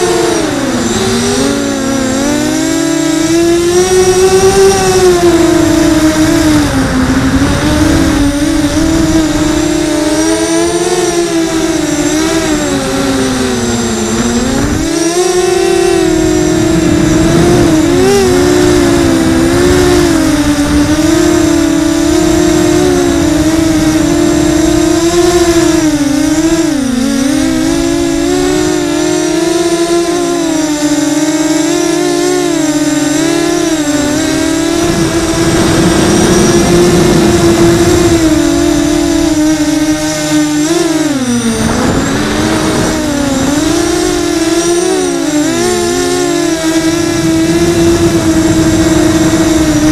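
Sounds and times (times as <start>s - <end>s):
drone propellers whining: 0.0s - 49.9s.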